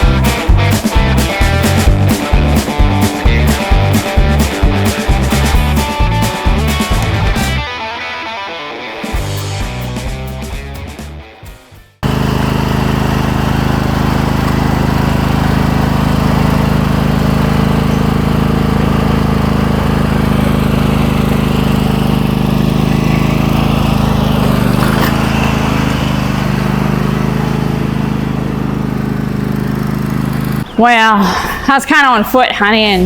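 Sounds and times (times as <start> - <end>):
garden tractor engine running: 0.0 - 7.6, 12.0 - 33.0.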